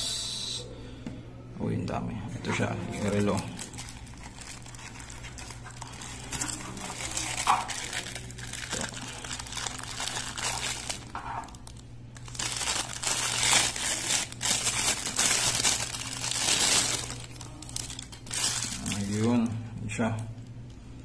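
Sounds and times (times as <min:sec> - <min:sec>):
plastic bag crinkling: 0:02.5 - 0:19.6.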